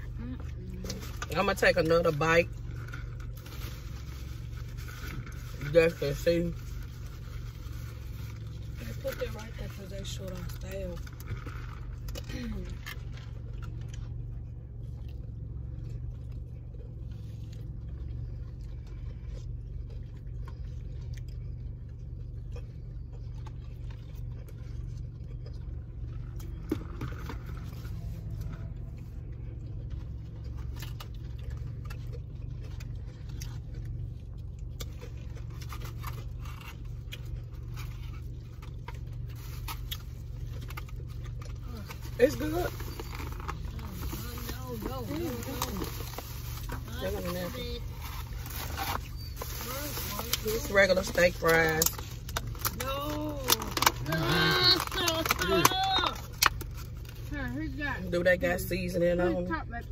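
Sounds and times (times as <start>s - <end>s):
clicks and rustles of eating: 0.0s - 57.4s
car idling hum: 0.0s - 59.9s.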